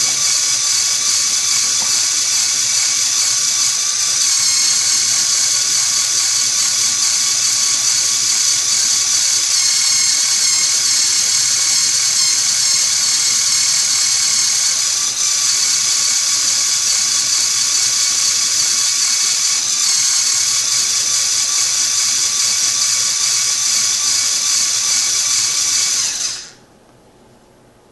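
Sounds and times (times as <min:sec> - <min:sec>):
motor whining through gears: 0:00.0 - 0:26.6.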